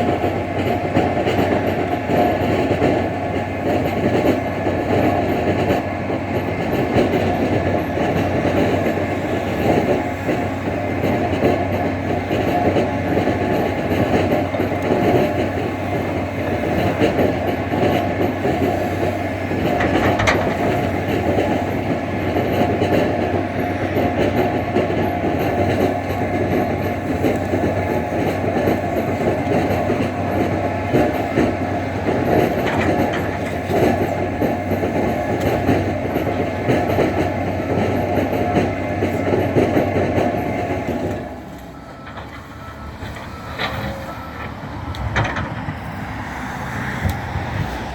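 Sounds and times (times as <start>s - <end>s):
diesel engine running with rattle: 0.0s - 47.9s.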